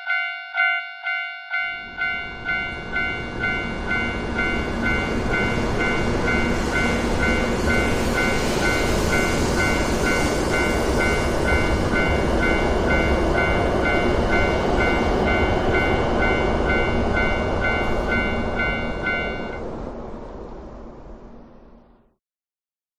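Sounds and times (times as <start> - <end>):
level crossing alarm ringing: 0.0 - 19.6
passing train rush: 0.0 - 22.1.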